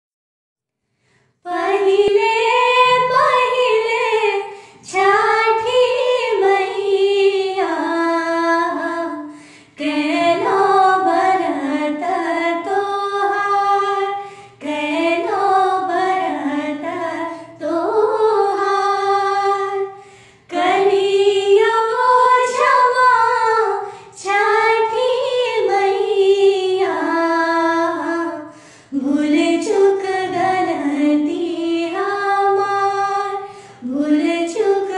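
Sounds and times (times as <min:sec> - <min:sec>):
two women singing folk song: 0:01.4 - 0:34.9.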